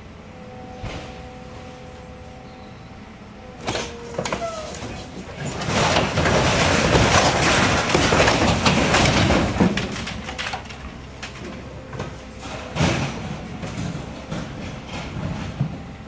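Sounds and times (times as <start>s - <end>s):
crane engine running: 0.0s - 16.0s.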